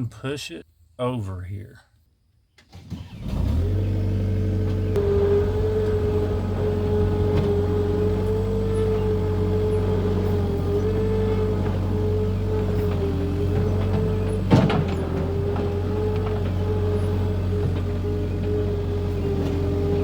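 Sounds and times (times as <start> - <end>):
skid steer engine running: 3.1 - 20.0.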